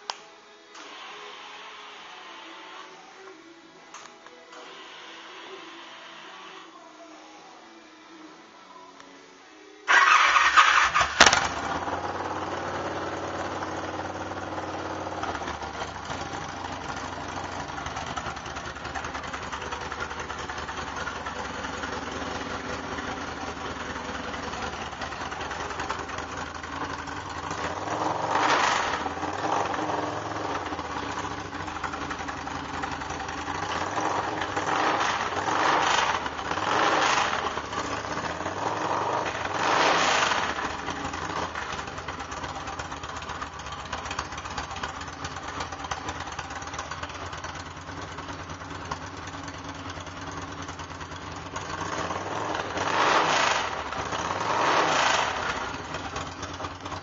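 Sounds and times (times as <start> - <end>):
motorcycle engine idling and revving: 9.9 - 57.0.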